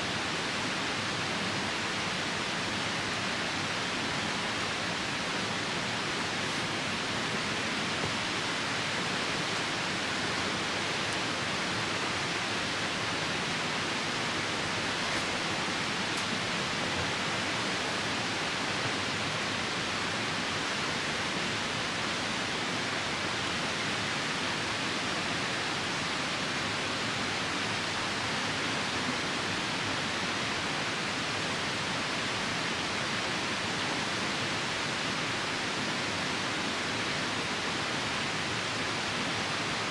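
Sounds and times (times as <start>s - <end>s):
rain: 0.0s - 39.9s
river rushing: 0.0s - 39.9s.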